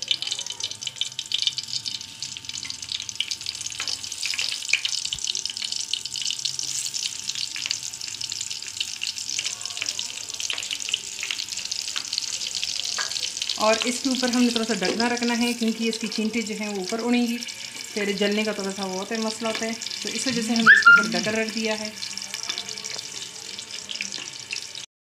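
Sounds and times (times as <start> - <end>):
chillies sizzling in hot oil: 0.0 - 24.9.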